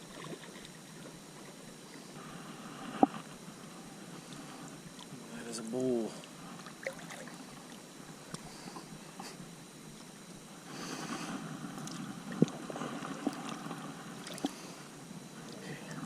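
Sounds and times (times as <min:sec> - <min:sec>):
water sloshing around a kayak: 0:00.0 - 0:05.4, 0:06.0 - 0:15.6.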